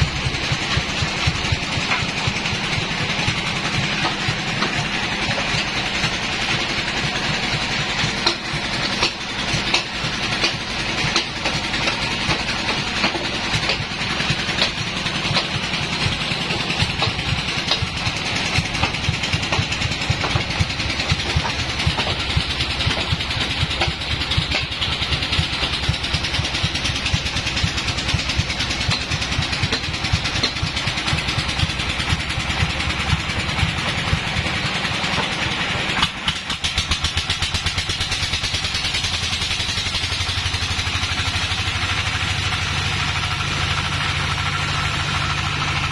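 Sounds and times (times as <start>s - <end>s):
sawmill machinery pulsing: 0.0s - 45.9s.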